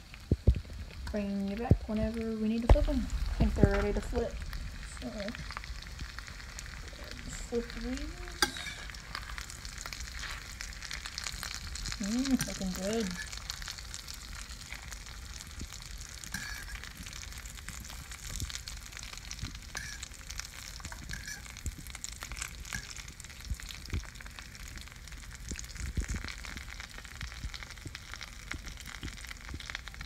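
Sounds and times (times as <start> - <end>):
fish frying in a pan: 0.0 - 30.0.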